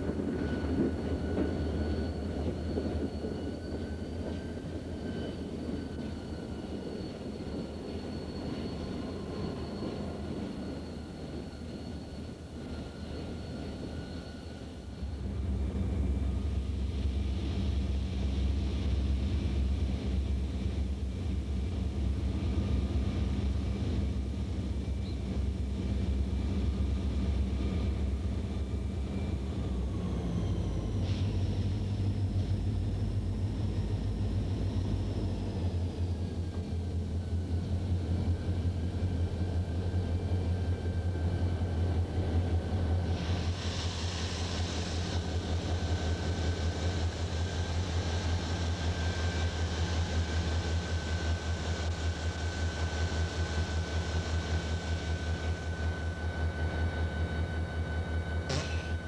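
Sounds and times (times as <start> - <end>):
diesel locomotives passing: 0.0 - 59.0.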